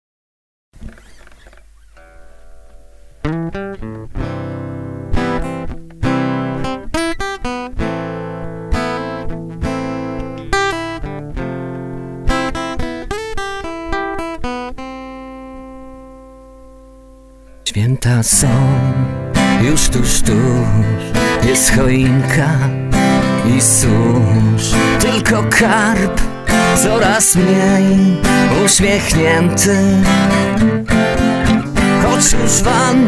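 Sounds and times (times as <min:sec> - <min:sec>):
acoustic guitars strumming chords: 0:00.8 - 0:33.0.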